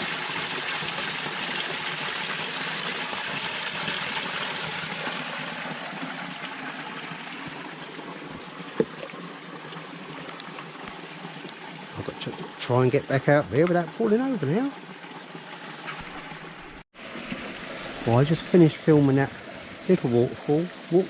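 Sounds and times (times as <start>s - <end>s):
small waterfall splashing and trickling: 0.0s - 21.0s.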